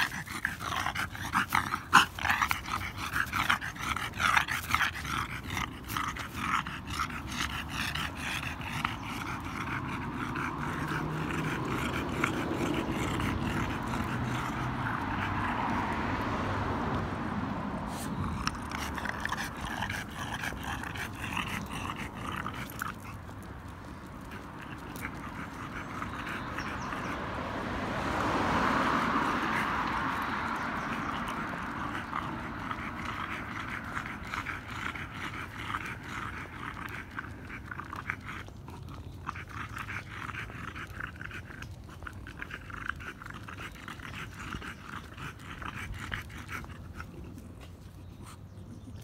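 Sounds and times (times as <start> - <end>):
dog panting: 0.0 - 16.4, 17.8 - 49.0.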